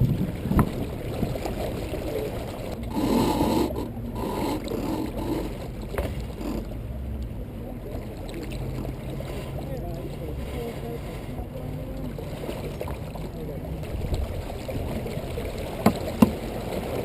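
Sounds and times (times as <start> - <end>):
wind and water rushing: 0.0 - 17.0.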